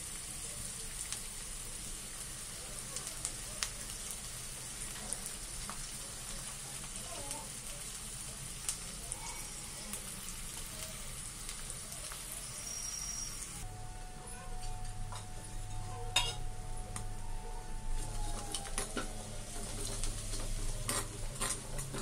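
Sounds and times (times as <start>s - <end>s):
onions sizzling in hot oil: 0.0s - 22.0s
small crackles: 0.1s - 13.6s, 17.9s - 22.0s.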